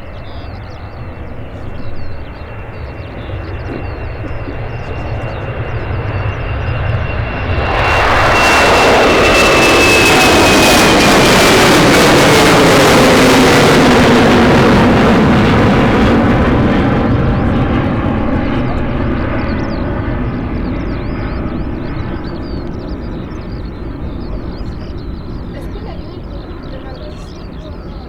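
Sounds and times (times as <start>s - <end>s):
jet engines roaring and whining: 0.0s - 28.0s.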